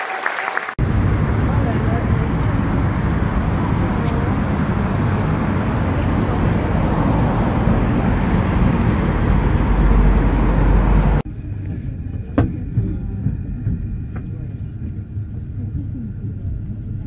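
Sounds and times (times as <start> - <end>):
city street traffic rumble: 0.6 - 17.0
deeper rumble: 0.8 - 17.0.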